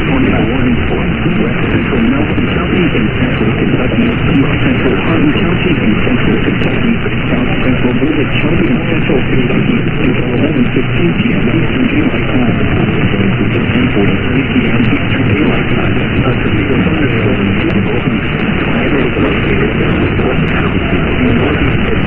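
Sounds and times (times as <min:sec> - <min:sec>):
faint indistinct voice: 0:00.0 - 0:22.0
radio static hiss: 0:00.0 - 0:22.0.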